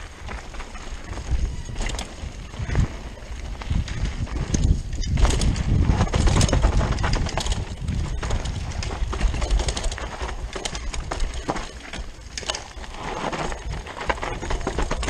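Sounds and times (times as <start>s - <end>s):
wind buffeting microphone: 0.0s - 12.4s
bike chain and frame rattling: 0.0s - 15.0s
bike tyres rumbling on dirt: 0.0s - 15.0s.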